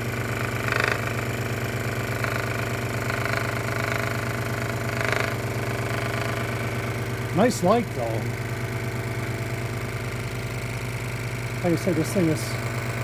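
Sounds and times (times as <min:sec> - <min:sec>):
scroll saw buzzing: 0:00.0 - 0:13.0.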